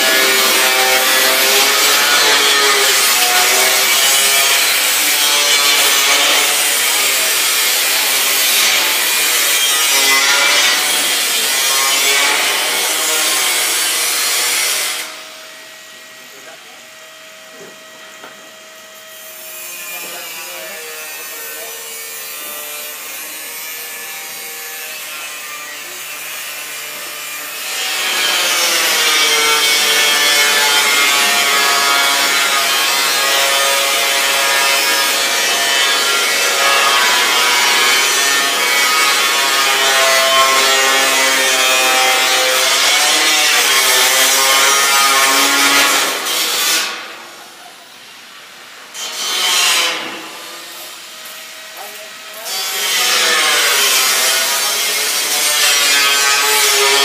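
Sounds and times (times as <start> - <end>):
power tool scraping steel: 0.0 - 16.6, 19.0 - 47.1, 48.9 - 57.0.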